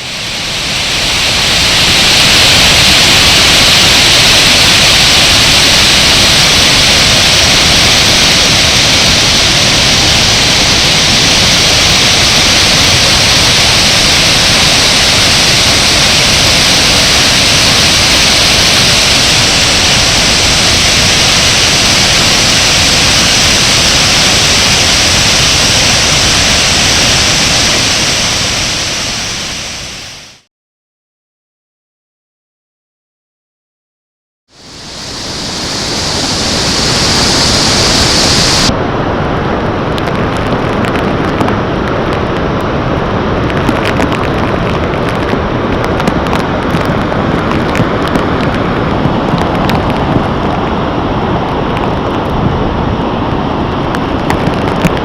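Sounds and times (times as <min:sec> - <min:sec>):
waterfall roaring: 0:00.0 - 0:30.5, 0:34.5 - 0:55.0.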